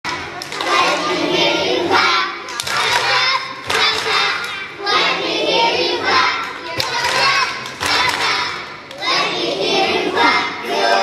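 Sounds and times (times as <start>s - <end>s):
children singing together: 0.1s - 11.0s.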